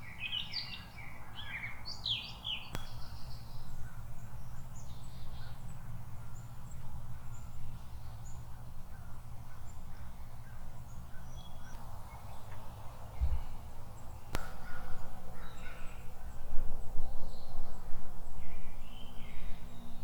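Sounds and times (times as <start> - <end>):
small birds chirping: 0.0 - 17.8.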